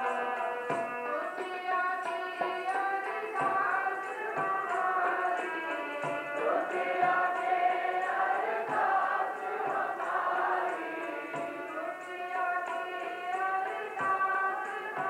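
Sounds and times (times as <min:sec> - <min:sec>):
harmonium: 0:00.0 - 0:15.0
tabla: 0:00.0 - 0:15.0
women singing together: 0:00.0 - 0:15.0.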